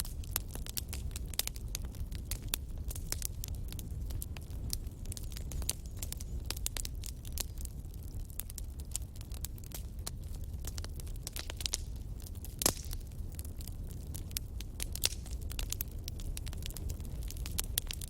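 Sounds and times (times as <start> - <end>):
firewood crackling and popping: 0.0 - 18.0
low rumble of fire: 0.0 - 18.0.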